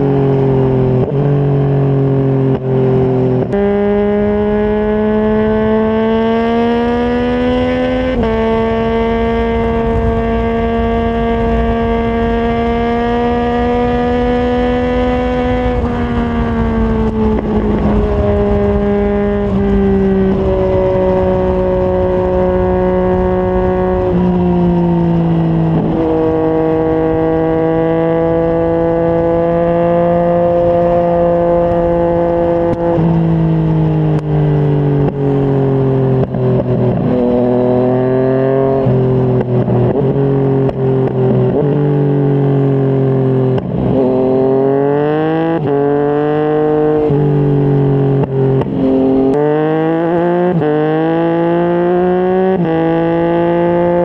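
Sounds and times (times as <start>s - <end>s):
low wind rumble: 0.0s - 54.0s
motorcycle engine at speed: 0.0s - 54.0s.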